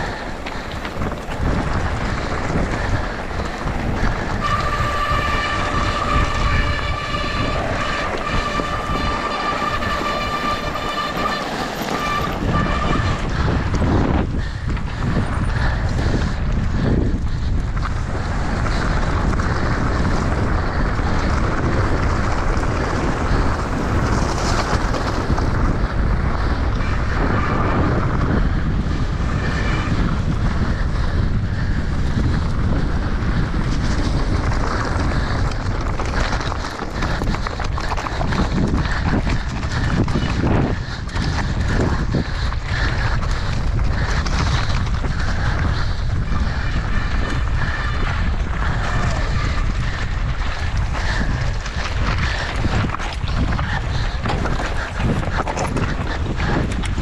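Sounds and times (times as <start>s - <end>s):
bike rattling over rough ground: 0.0s - 57.0s
wind buffeting microphone: 0.0s - 57.0s.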